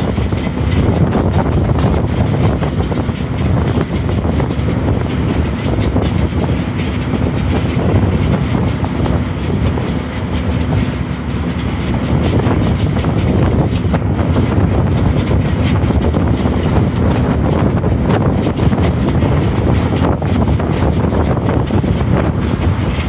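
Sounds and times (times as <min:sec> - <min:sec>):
construction machinery rumble: 0:00.0 - 0:23.0
street traffic: 0:00.0 - 0:23.0.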